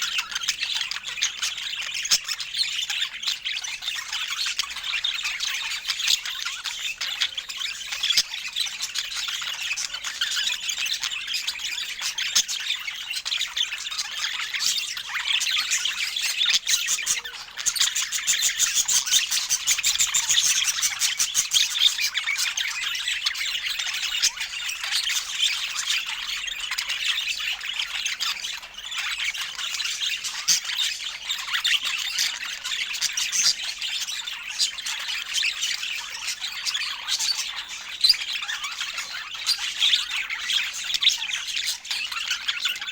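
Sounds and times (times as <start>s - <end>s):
budgerigars chattering and warbling: 0.0s - 42.9s.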